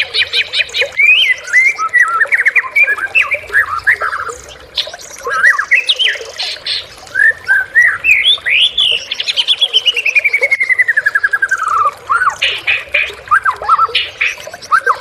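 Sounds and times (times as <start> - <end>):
songbird whistling and chattering: 0.2 - 15.0.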